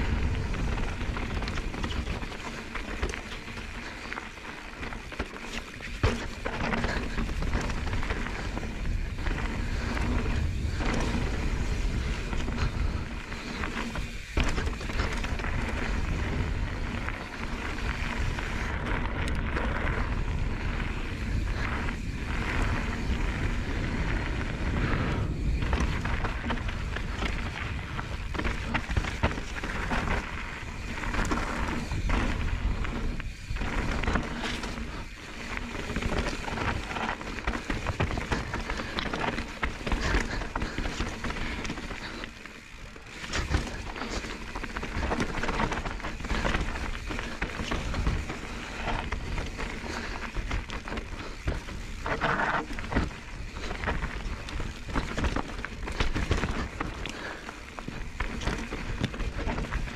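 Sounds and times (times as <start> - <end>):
wind rumble on microphone: 0.0 - 4.2, 5.9 - 59.9
bike clattering: 0.0 - 59.9
bike tyres crunching over stones: 0.0 - 59.9.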